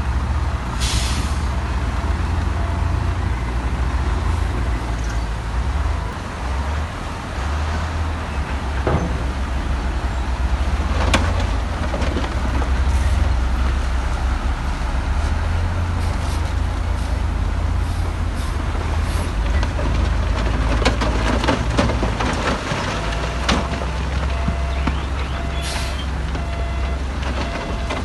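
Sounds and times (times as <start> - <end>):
diesel machinery engine rumble: 0.0 - 28.0.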